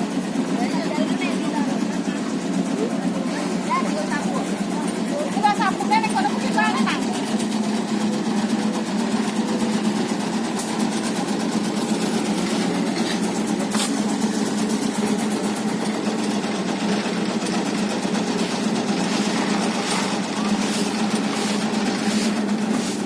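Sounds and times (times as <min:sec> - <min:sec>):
machine humming and clattering: 0:00.0 - 0:23.0.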